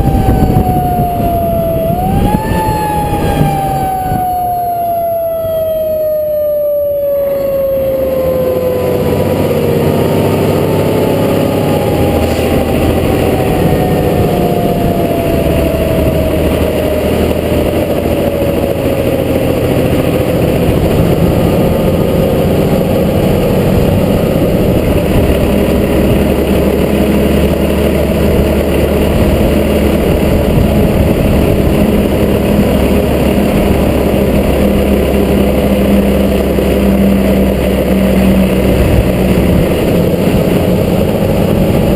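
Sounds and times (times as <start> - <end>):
fire truck engine running: 0.0 - 41.9
siren winding down: 0.0 - 41.9.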